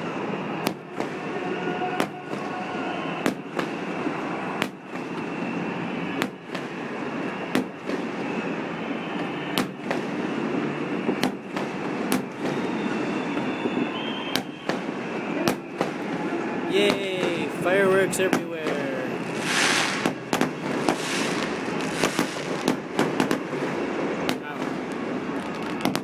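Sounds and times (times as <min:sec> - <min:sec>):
firework bangs: 0:00.0 - 0:26.0
firework crackling: 0:00.0 - 0:26.0.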